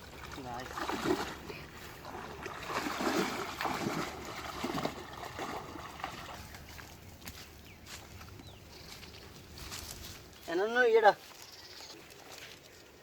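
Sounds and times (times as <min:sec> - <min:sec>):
pond water sloshing and splashing: 0:00.0 - 0:10.5, 0:11.1 - 0:13.0.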